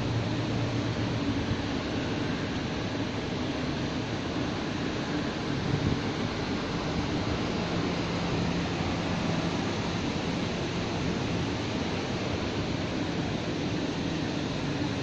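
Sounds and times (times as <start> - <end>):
even outdoor rush: 0.0 - 15.0.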